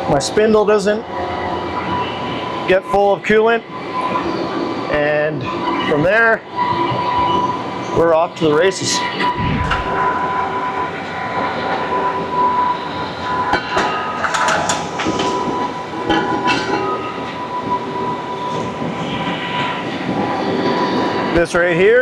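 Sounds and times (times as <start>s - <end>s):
lathe running with whine: 0.0s - 22.0s.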